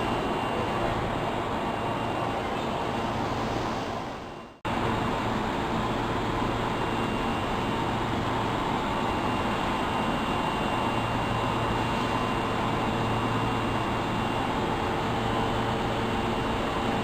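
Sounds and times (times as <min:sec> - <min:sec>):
subway train running: 0:00.0 - 0:17.0.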